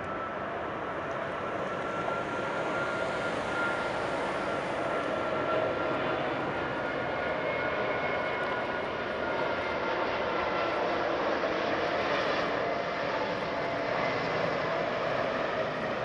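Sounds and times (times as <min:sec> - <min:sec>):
faint high whine: 0:00.0 - 0:16.0
jet engines rumbling: 0:00.0 - 0:16.0.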